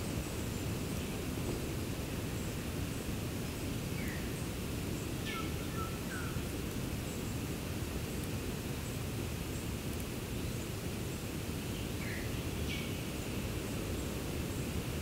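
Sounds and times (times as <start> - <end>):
low rumble of background noise: 0.0 - 15.0.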